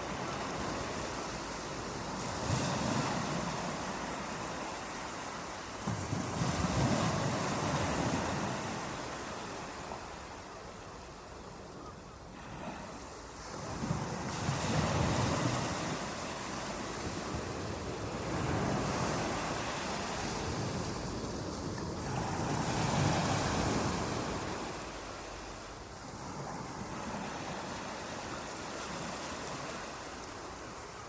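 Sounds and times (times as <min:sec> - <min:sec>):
waves washing in: 0:00.0 - 0:10.6, 0:12.3 - 0:31.0.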